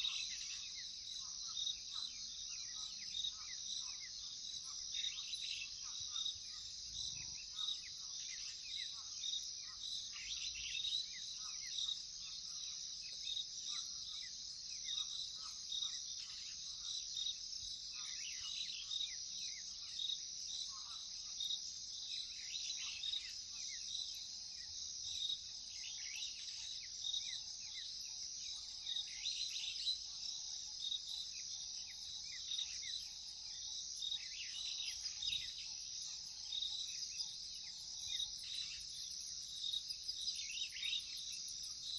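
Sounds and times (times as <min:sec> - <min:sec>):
crickets chorus: 0:00.0 - 0:41.9.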